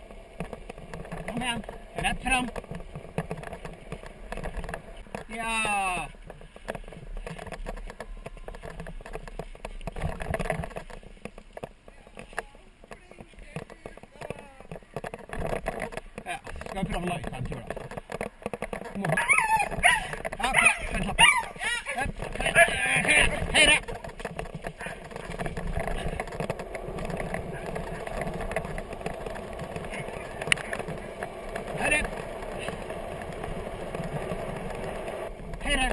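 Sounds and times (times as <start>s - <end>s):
kick scooter rolling on wet asphalt: 0.0s - 35.9s
scooter frame rattling: 0.0s - 35.9s.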